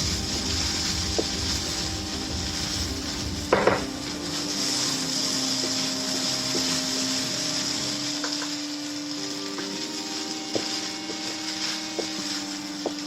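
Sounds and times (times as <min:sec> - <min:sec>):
steady hiss and hum: 0:00.0 - 0:13.0.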